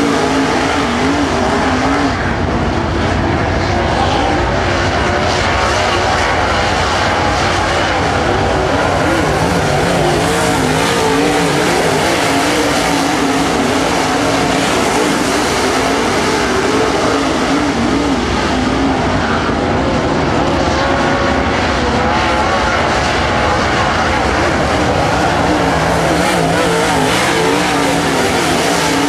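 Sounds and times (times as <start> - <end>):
race car engines roaring: 0.0 - 29.0.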